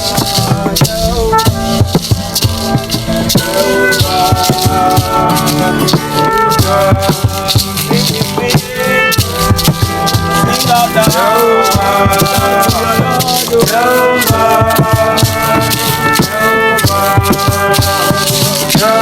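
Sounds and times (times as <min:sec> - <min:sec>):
worship song music: 0:00.0 - 0:19.0.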